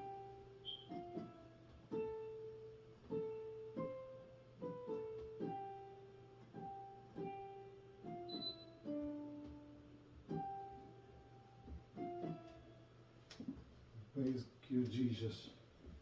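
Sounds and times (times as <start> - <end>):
soft slow piano notes: 0.0 - 13.6.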